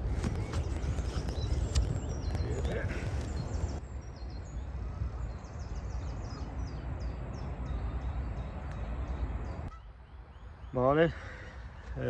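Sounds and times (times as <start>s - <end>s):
wind rumble on microphone: 0.0s - 9.7s
small birds chirping: 0.0s - 12.0s.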